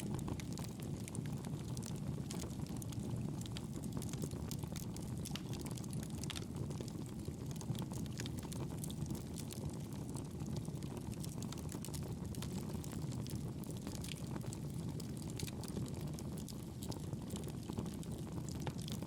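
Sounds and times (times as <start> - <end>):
burning wood crackling and popping: 0.0 - 19.0
rush of campfire flames: 0.0 - 19.0.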